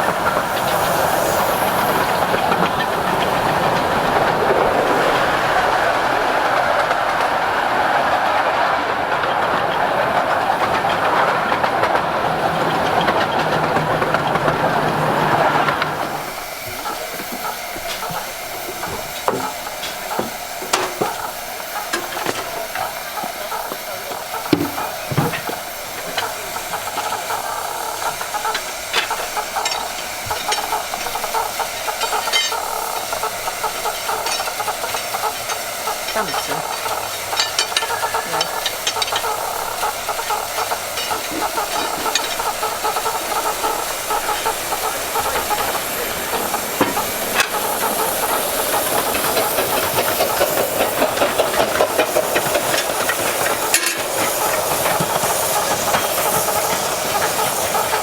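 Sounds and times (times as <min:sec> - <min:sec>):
steam train running: 0:00.0 - 0:58.0
clicks and rattles: 0:06.4 - 0:58.0.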